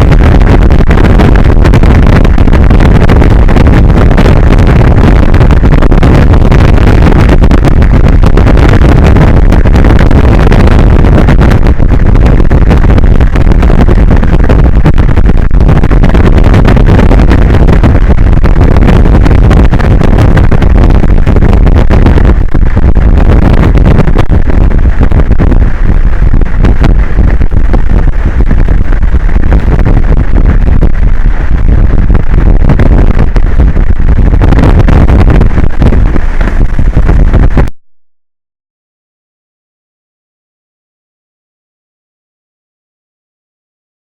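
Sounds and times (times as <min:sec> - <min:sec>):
wind rushing on microphone: 0:00.0 - 0:37.8.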